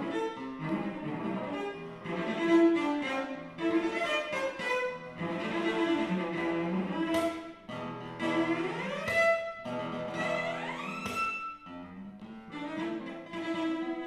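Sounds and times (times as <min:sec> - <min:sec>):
cello: 0:00.0 - 0:14.0
classical guitar: 0:00.0 - 0:14.0.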